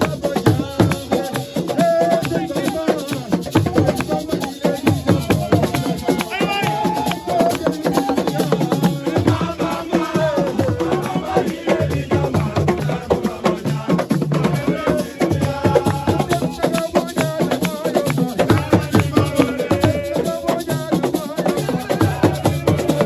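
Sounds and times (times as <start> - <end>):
drums: 0.0 - 23.0.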